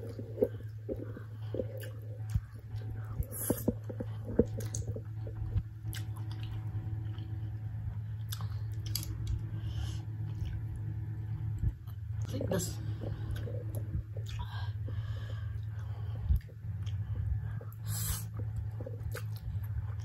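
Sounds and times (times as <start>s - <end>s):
chewing and wet mouth sounds: 0.0s - 20.0s
low hum: 0.0s - 20.0s.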